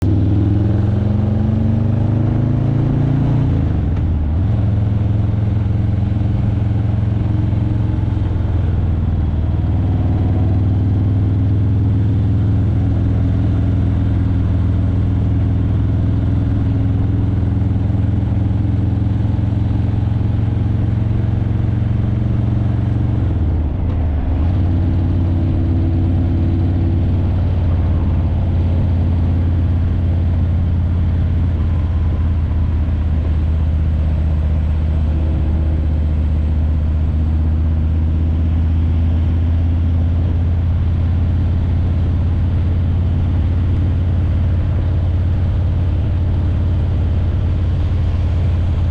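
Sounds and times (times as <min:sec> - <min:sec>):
motorcycle engine riding slowly: 0:00.0 - 0:48.9.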